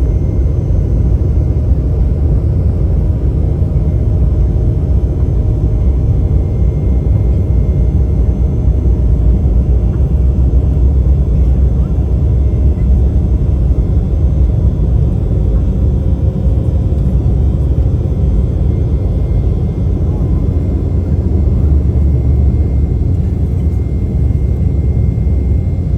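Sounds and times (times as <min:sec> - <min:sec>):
jet engines rumbling in cabin: 0:00.0 - 0:25.9.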